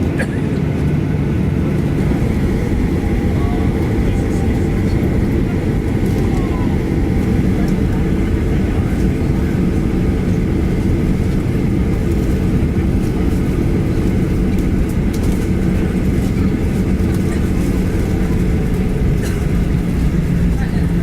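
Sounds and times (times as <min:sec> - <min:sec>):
jet engine rumble in cabin: 0:00.0 - 0:21.0
steady hum: 0:00.2 - 0:21.0.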